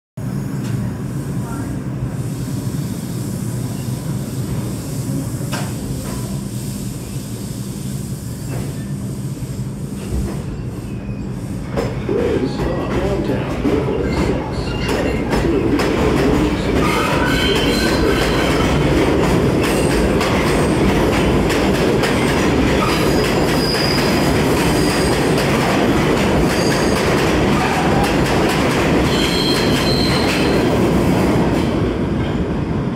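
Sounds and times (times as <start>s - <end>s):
subway train rumbling past: 0.2s - 32.9s.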